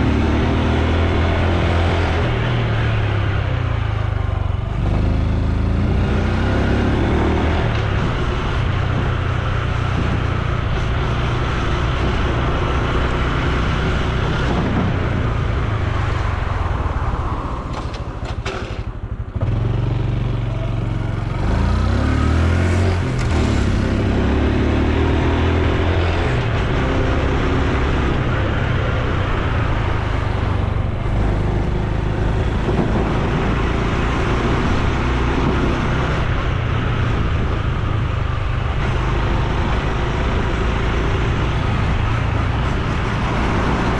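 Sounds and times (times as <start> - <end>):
motorcycle engine running: 1.0 - 43.9.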